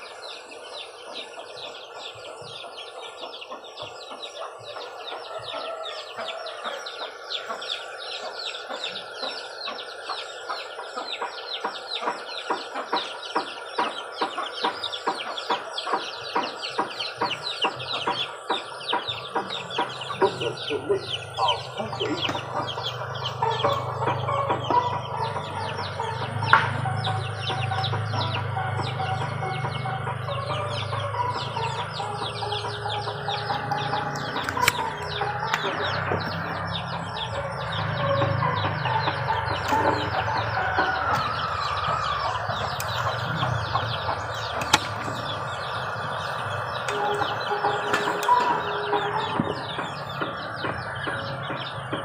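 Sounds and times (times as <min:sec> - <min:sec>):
chickens clucking: 0:00.0 - 0:52.0
steady low hum: 0:00.0 - 0:52.0.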